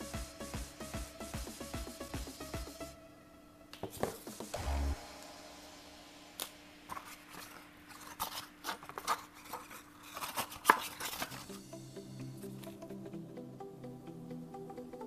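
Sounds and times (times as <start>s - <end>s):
background music: 0.0s - 9.0s, 11.1s - 15.0s.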